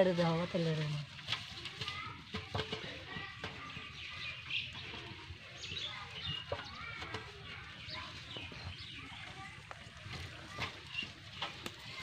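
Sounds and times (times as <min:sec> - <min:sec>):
birds chirping: 0:00.0 - 0:12.0
leafy vines rustling: 0:00.0 - 0:12.0.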